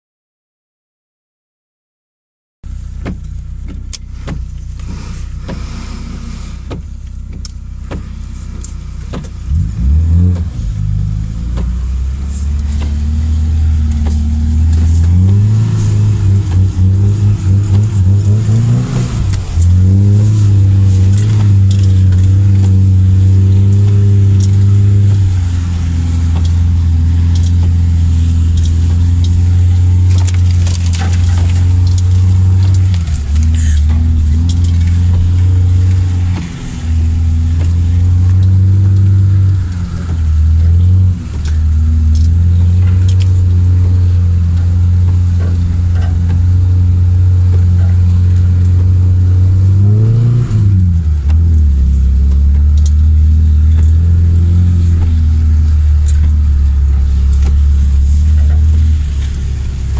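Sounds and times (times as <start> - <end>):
car engine revving under load: 2.6 - 59.9.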